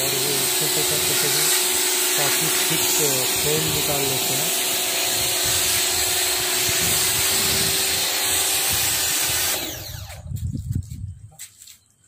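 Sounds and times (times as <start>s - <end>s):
pressure washer spray hissing: 0.0s - 9.8s
motor hum: 0.0s - 10.4s.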